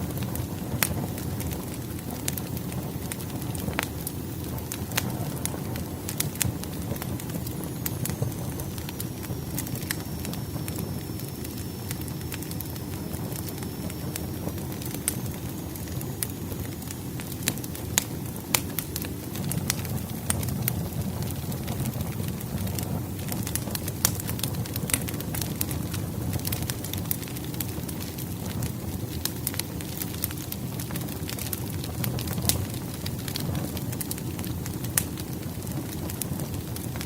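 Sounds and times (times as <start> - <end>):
fire crackling and popping: 0.0 - 37.0
low rumble of flames: 0.0 - 37.0.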